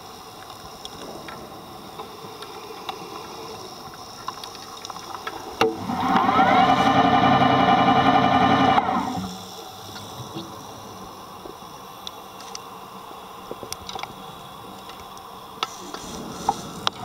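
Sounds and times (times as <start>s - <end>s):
underwater hiss: 0.0s - 7.0s, 8.9s - 13.5s, 14.1s - 17.0s
sharp underwater clicks and crackles: 0.0s - 7.6s, 8.7s - 17.0s.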